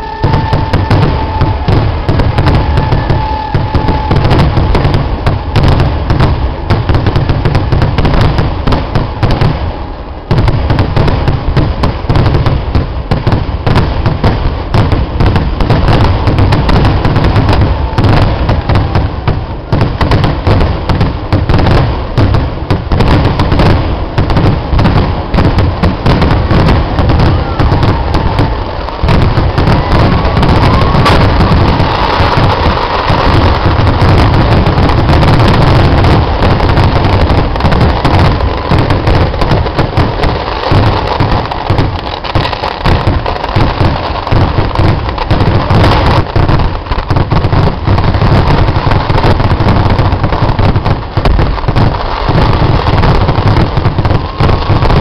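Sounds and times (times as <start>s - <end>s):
firecracker cracks and booms: 0.0s - 55.0s.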